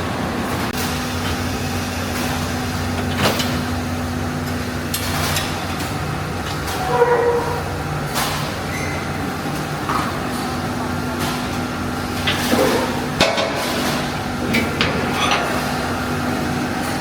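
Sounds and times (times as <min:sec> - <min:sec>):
packaging machinery humming: 0:00.0 - 0:17.0.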